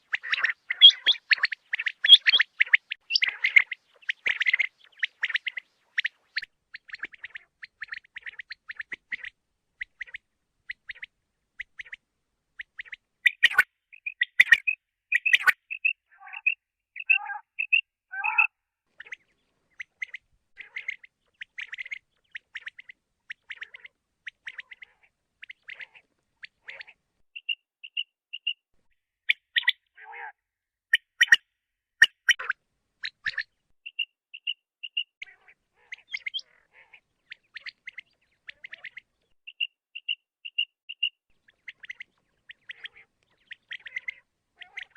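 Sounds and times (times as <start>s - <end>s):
quail calling: 0.0s - 12.0s, 12.6s - 28.6s, 29.3s - 31.4s, 32.0s - 44.9s.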